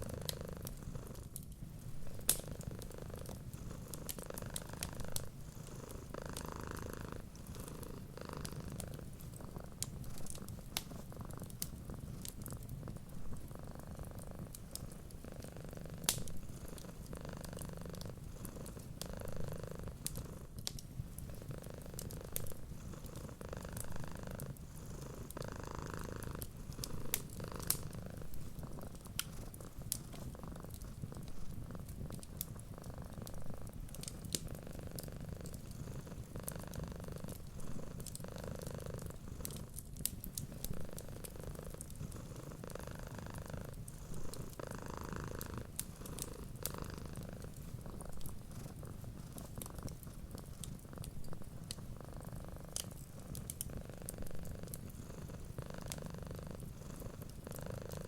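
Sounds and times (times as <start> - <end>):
cat purring: 0.0 - 58.0
wood fire crackling: 0.6 - 58.0.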